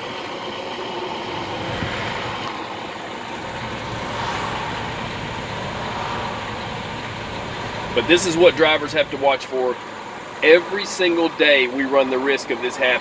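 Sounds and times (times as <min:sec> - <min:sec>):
highway traffic engine and road noise: 0:00.0 - 0:13.0.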